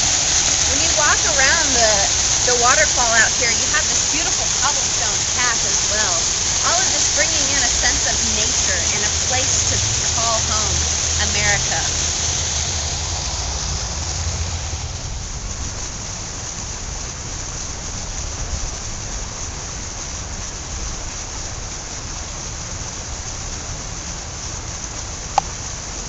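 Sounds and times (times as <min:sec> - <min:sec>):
waterfall pouring into pond: 0:00.0 - 0:26.0.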